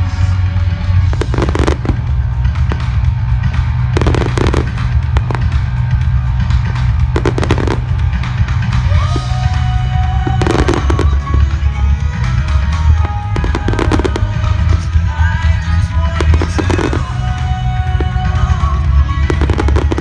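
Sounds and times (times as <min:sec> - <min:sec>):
fireworks bangs and crackles: 0:00.0 - 0:20.0
loud music: 0:00.0 - 0:20.0
steady low rumble: 0:00.0 - 0:20.0.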